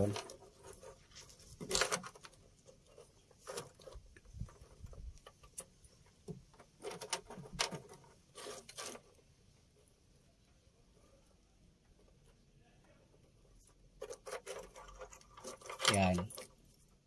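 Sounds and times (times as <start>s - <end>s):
scrapes: 0.0s - 9.3s, 11.9s - 17.0s
faint rustles and small clicks: 0.0s - 17.0s.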